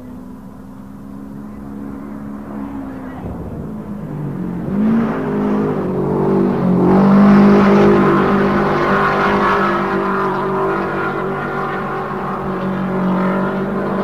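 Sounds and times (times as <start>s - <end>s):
racing car engines: 0.0s - 14.0s.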